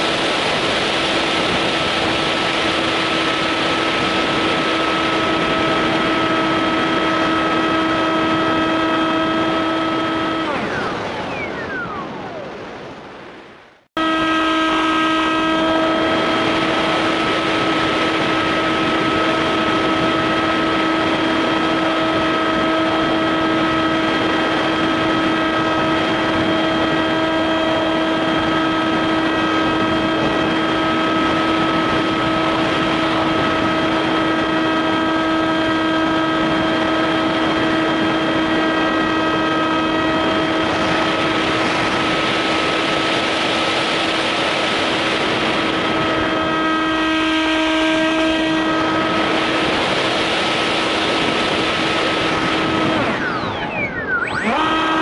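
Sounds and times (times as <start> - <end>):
model plane propeller droning: 0.0 - 12.9, 14.0 - 55.0
wind rushing on microphone: 0.0 - 55.0.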